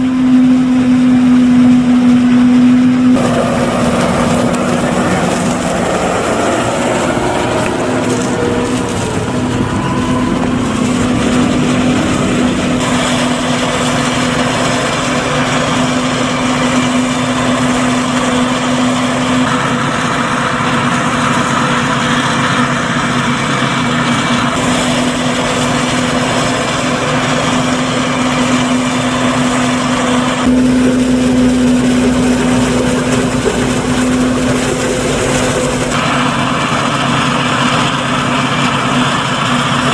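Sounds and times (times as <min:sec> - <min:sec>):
steady hum: 0:00.0 - 0:39.9
tractor engine: 0:00.0 - 0:39.9
forage harvester chopping: 0:03.0 - 0:39.9.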